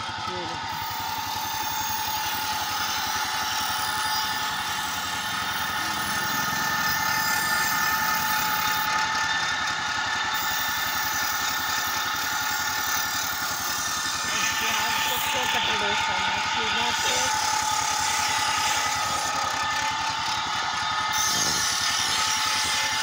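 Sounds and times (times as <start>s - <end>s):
grinding wheel high tone: 0.0s - 23.0s
knife grinding on wheel: 0.0s - 23.0s
motorcycle engine running: 0.0s - 23.0s.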